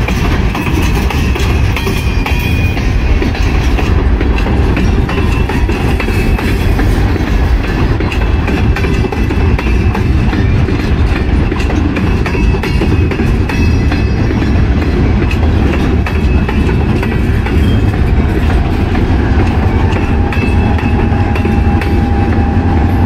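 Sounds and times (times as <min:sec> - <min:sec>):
freight train wheels rumbling: 0:00.0 - 0:23.0
wheels clickety-clack: 0:00.0 - 0:23.0.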